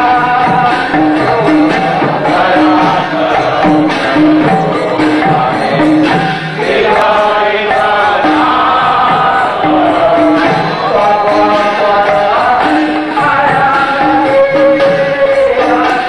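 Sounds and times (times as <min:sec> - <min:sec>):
group singing: 0:00.0 - 0:16.0
rhythmic percussion beat: 0:00.0 - 0:16.0.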